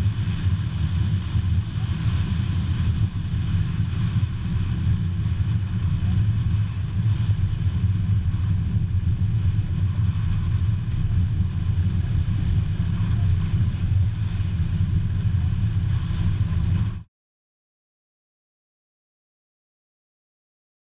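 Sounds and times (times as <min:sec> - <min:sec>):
aircraft engines low rumble: 0:00.0 - 0:17.1.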